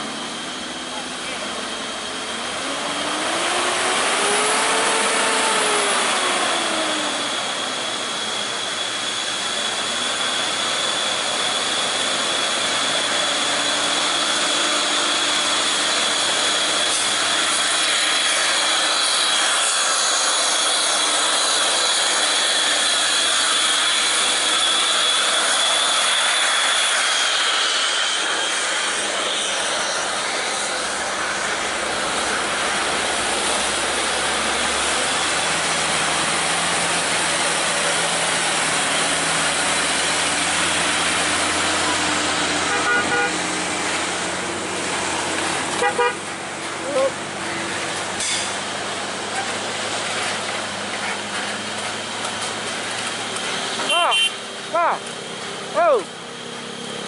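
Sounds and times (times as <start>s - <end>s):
high steady whine: 0.0s - 57.0s
truck diesel engine labouring: 0.0s - 57.0s.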